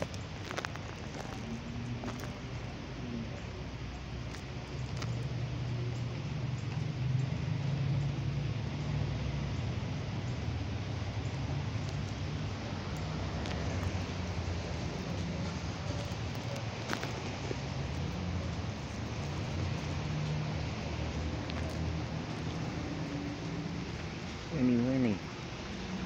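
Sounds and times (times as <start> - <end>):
light rain hissing: 0.0 - 26.0
raindrops ticking: 0.0 - 26.0
steady low rumble: 0.0 - 26.0.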